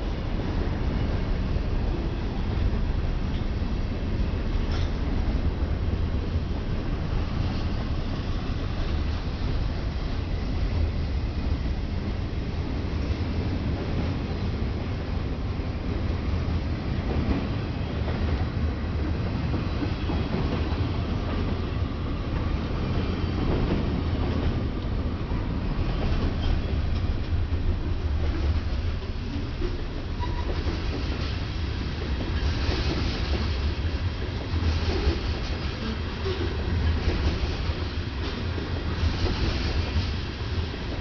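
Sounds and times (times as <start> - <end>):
freight train rumbling past: 0.0 - 41.0.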